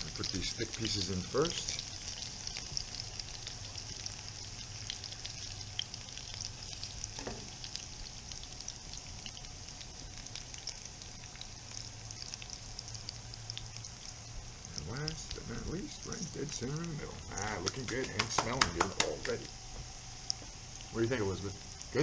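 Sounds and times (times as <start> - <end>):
fish sizzling in frying pan: 0.0 - 22.0.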